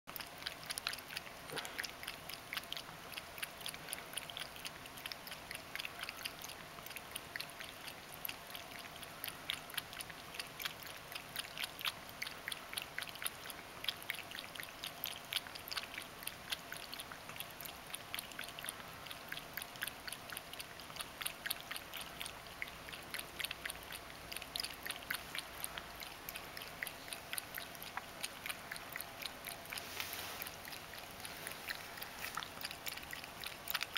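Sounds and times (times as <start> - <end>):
cat lapping water: 0.1 - 33.9.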